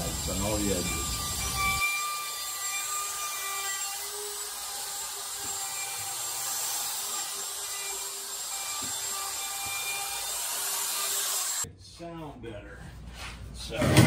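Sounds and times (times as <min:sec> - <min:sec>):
router whining: 0:00.0 - 0:11.6.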